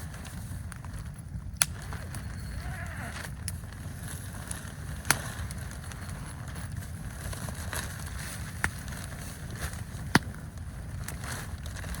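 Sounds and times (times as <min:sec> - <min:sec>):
campfire popping: 0:00.0 - 0:12.0
wind rumbling: 0:00.0 - 0:12.0.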